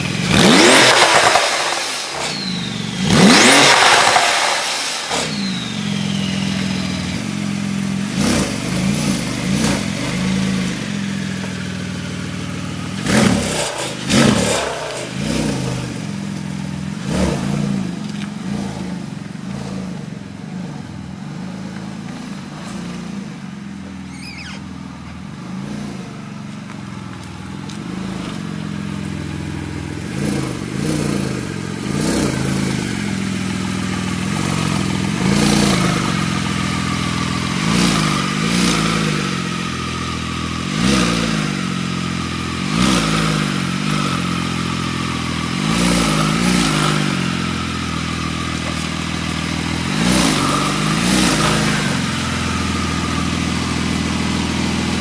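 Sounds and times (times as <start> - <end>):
car exhaust idling: 0.0 - 55.0
engine throttle blips: 0.0 - 55.0.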